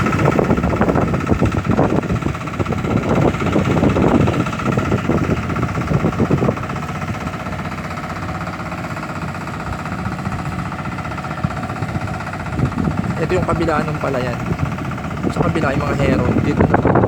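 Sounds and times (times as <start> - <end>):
engine running steadily: 0.0 - 17.0
loud uneven low rumbling: 0.0 - 17.0.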